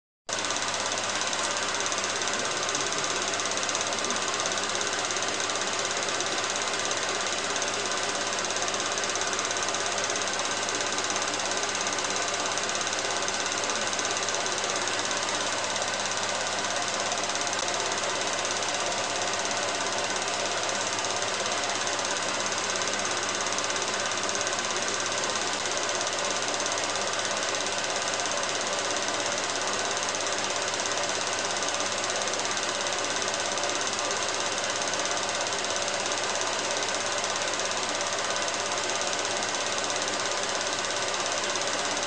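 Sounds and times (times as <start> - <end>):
film projector clatter and whir: 0.3 - 42.0.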